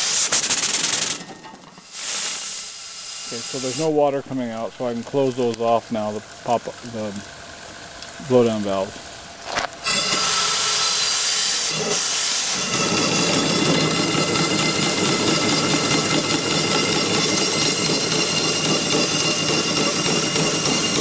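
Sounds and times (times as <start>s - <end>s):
steam hissing: 0.0s - 7.6s, 8.2s - 21.0s.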